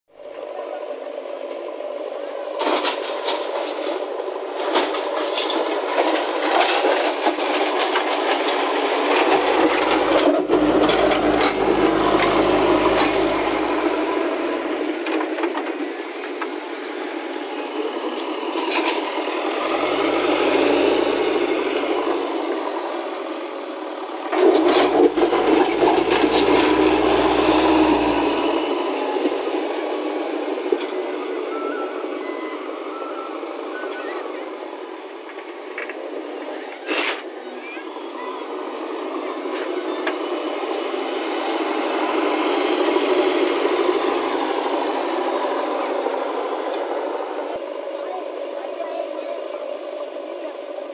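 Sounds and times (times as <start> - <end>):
diesel engine running hard: 0.1 - 50.9.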